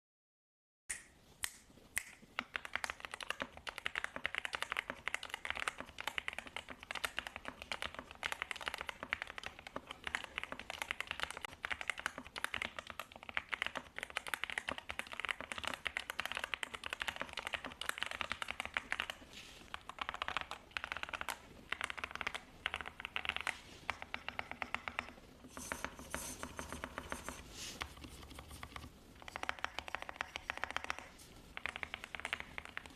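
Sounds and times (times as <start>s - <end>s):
mechanical keyboard typing: 2.4s - 32.9s.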